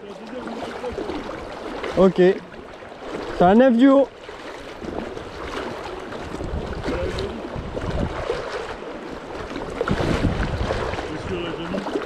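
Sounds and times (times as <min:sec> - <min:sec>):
river water rushing around legs: 0:00.0 - 0:12.0.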